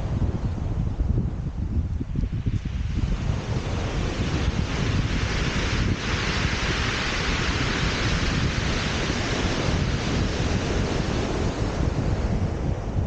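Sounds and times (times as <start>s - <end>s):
wind buffeting microphone: 0.0s - 13.0s
surf washing over shingle: 2.2s - 12.9s.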